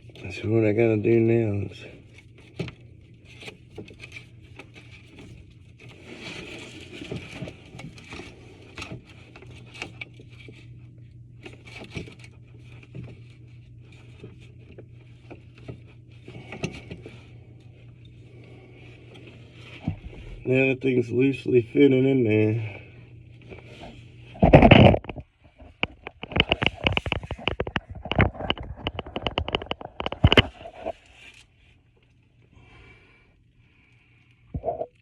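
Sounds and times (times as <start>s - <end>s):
pipe parts scraping and clicking: 0.0s - 21.6s, 22.6s - 32.2s, 34.2s - 35.0s
steady low hum: 0.0s - 35.0s.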